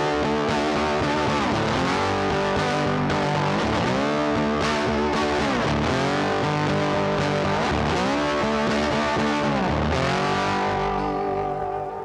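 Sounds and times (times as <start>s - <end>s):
guitar music with pitch bends: 0.0s - 12.0s.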